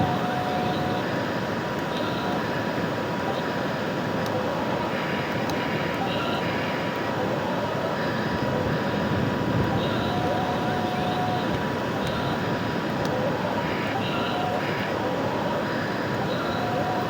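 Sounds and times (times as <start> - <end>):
faint constant whine: 0.0 - 17.0.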